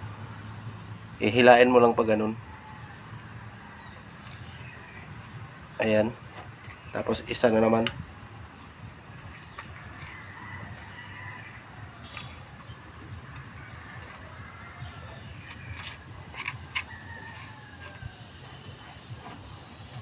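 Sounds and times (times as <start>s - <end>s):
steady high hiss: 0.0s - 20.0s.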